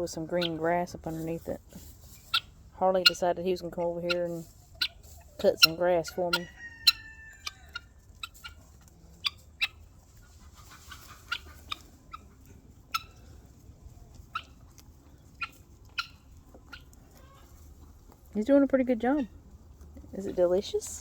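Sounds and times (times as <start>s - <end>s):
rabbit chewing grass: 0.0s - 21.0s.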